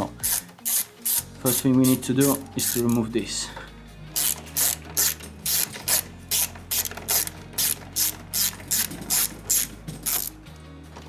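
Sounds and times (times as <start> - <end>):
socket ratchet clicking: 0.2 - 3.0, 4.1 - 10.4.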